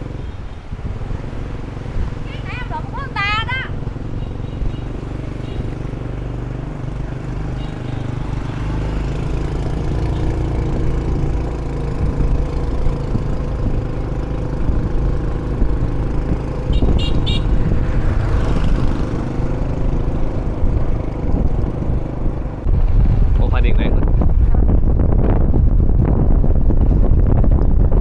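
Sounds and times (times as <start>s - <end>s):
motorbike engine rumbling: 0.0s - 28.0s.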